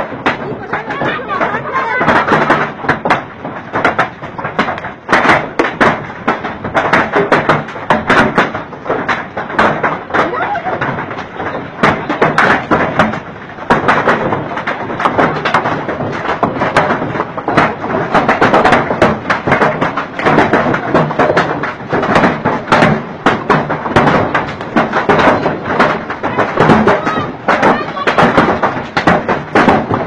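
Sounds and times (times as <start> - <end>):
hailstones clattering: 0.0 - 30.0.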